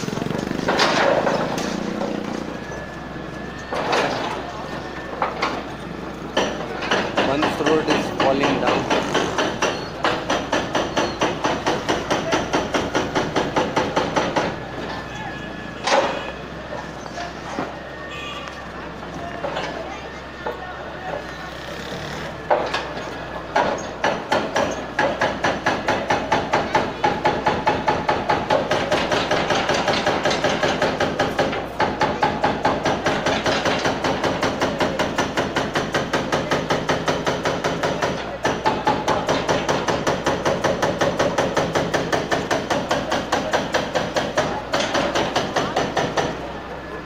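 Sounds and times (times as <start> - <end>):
hydraulic breaker pounding masonry: 0.0 - 18.0, 19.0 - 47.0.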